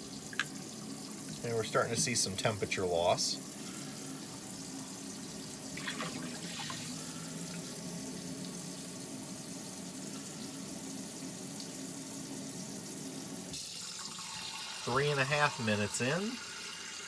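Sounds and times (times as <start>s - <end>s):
water running into sink: 0.0s - 17.0s.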